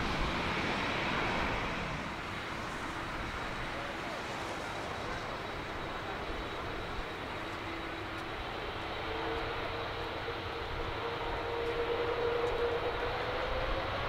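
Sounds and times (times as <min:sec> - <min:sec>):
jet engine roar with whine: 0:00.0 - 0:14.0.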